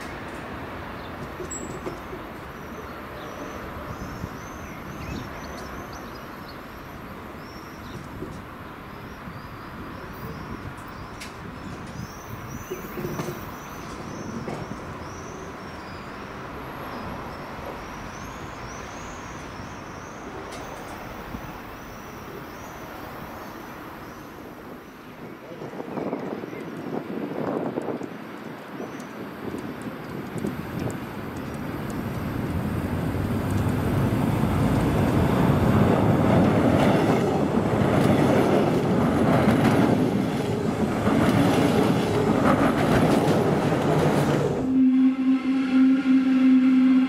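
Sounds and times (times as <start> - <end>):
distant train rumble: 0.0 - 47.0.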